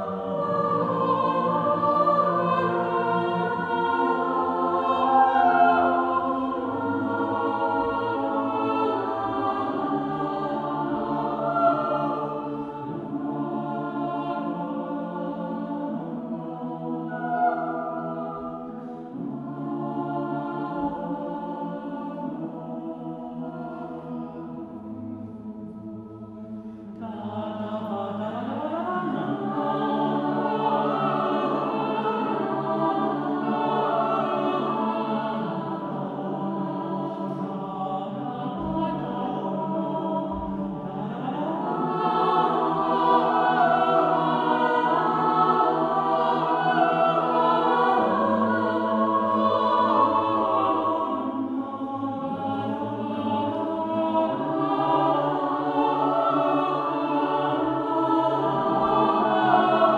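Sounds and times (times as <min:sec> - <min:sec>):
choir singing a cappella: 0:00.0 - 0:59.9.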